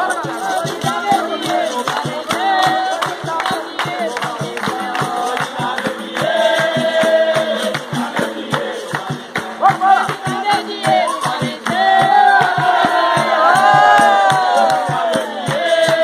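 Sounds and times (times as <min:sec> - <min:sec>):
group singing: 0:00.0 - 0:16.0
hand clapping: 0:00.0 - 0:16.0
hand drum steady beat: 0:00.0 - 0:16.0.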